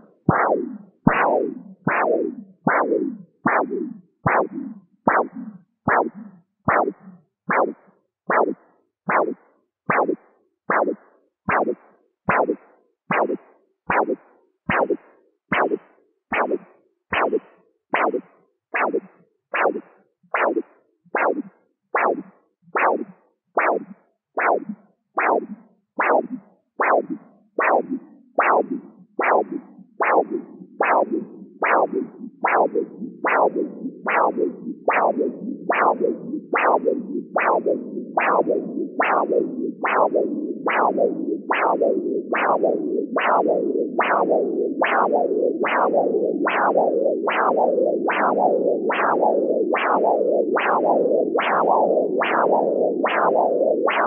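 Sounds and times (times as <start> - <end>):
doppler pulse beats: 0.0 - 54.0.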